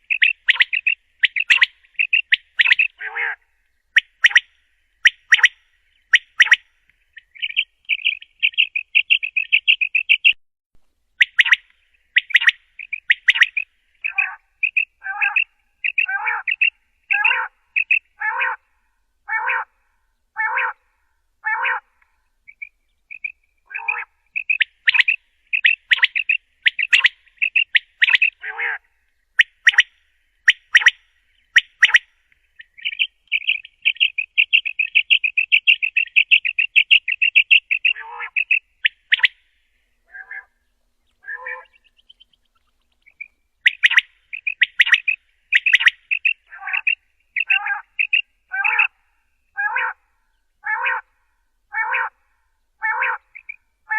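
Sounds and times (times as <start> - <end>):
quail calling: 0.0 - 10.4, 11.2 - 19.8, 20.4 - 20.8, 21.4 - 39.4, 40.0 - 52.2, 52.8 - 53.9.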